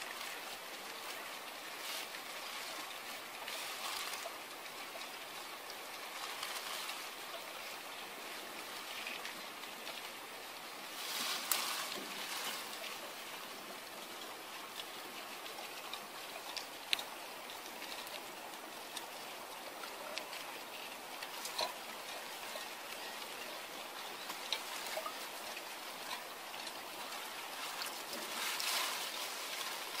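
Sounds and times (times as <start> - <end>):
faint watery hiss: 0.0 - 30.0
small clicks and wet crackles: 0.0 - 30.0
water splashing: 0.0 - 30.0.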